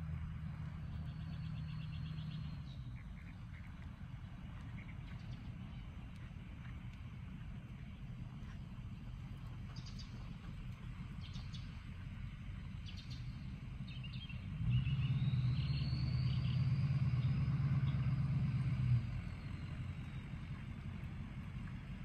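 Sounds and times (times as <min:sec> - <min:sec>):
low outdoor rumble: 0:00.0 - 0:22.0
steady engine-like hum: 0:00.0 - 0:22.0.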